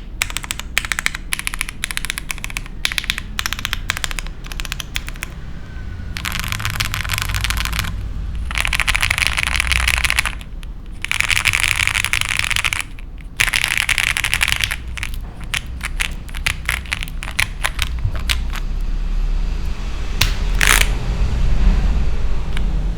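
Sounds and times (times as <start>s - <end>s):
mechanical keyboard typing: 0.0s - 5.4s, 6.2s - 18.7s, 20.2s - 20.9s.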